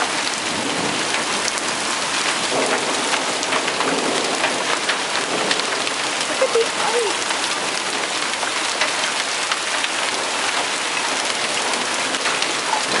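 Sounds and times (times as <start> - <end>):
hailstones ticking: 0.0 - 13.0
heavy rain hissing: 0.0 - 13.0.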